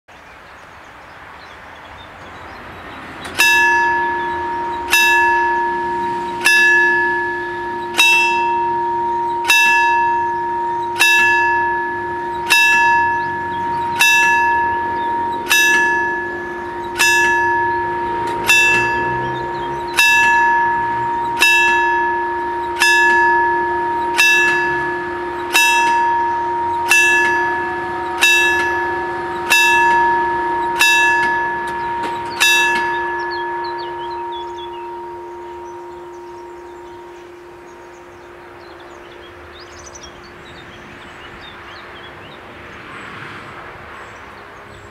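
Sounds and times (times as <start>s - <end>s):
level-crossing warning bell: 2.2s - 44.9s.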